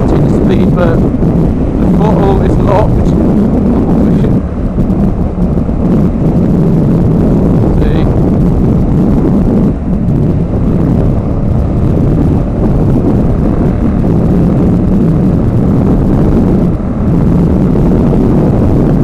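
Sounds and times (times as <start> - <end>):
motorcycle engine: 0.0 - 19.0
wind buffeting on microphone: 0.0 - 19.0.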